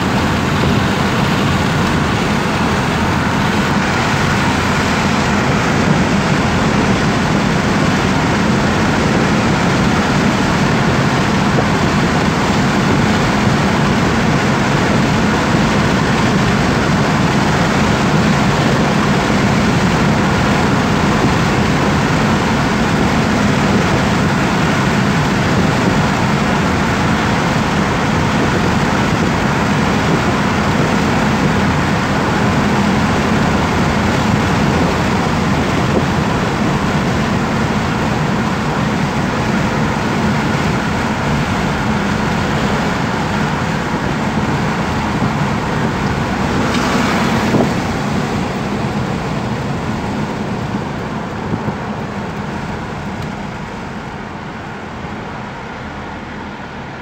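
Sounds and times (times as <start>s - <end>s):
car engine drone: 0.0s - 57.0s
tyre road rumble: 0.0s - 57.0s.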